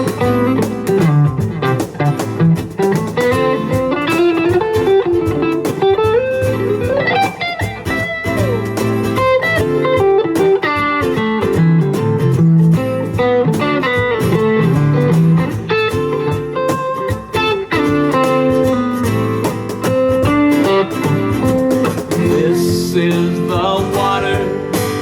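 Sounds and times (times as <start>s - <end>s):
cajon beat: 0.0s - 25.0s
guitars picking a melody: 0.0s - 25.0s.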